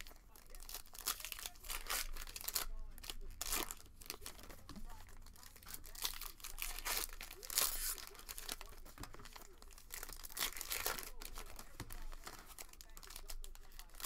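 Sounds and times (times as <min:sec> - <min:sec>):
foil wrappers tearing and crinkling: 0:00.0 - 0:14.0.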